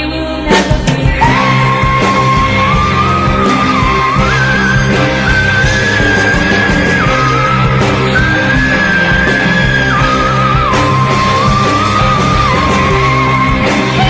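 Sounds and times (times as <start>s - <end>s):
low chords: 0.0s - 14.0s
high melody of held notes: 1.2s - 14.0s.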